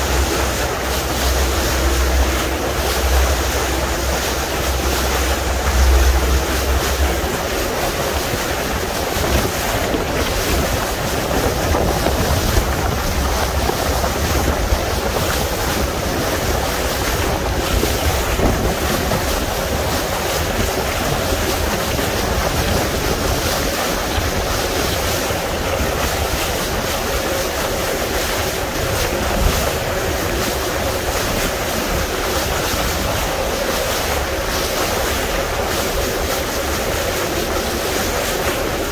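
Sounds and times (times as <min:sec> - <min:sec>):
boat engine hum: 0:00.0 - 0:38.9
sea water rushing: 0:00.0 - 0:38.9
wind buffeting microphone: 0:00.0 - 0:38.9.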